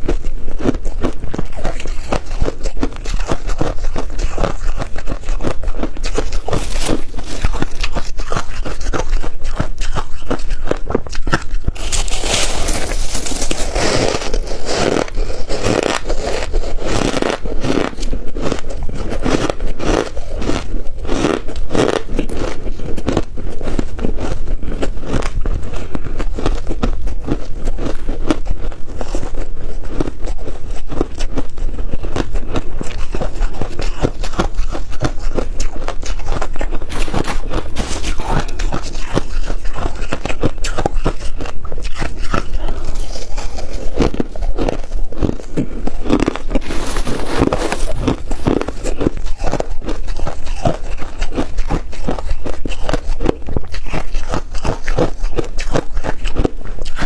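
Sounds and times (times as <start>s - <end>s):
frost being chewed crunching: 0.0s - 57.0s.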